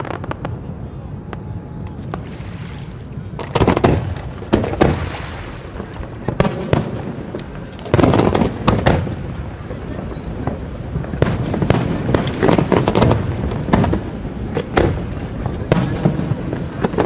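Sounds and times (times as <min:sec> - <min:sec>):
firework pops and crackles: 0:00.0 - 0:17.0.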